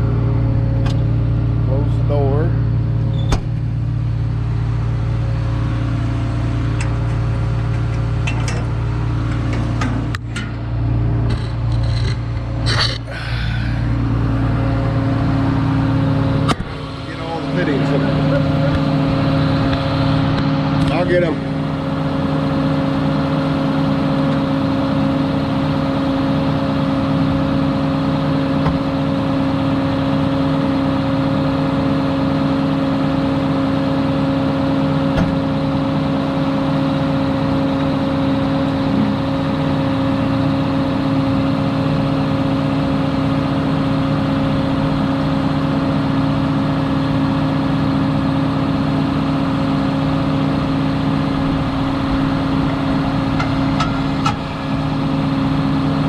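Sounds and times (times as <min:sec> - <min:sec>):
heavy vehicle engine droning: 0:00.0 - 0:56.0.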